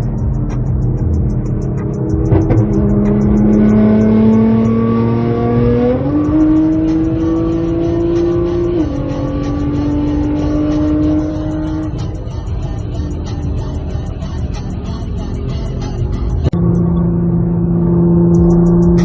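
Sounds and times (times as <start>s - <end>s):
sports car engine running hard: 0.0s - 19.0s.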